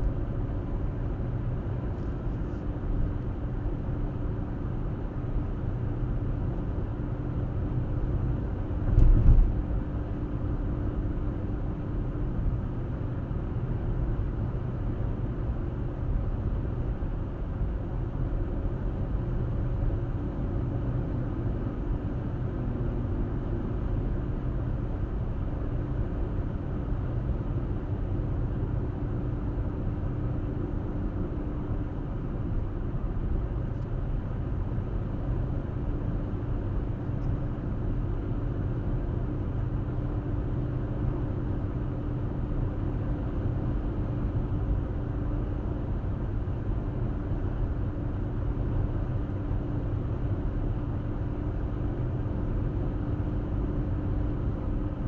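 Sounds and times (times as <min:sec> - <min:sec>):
car driving road noise: 0:00.0 - 0:52.9.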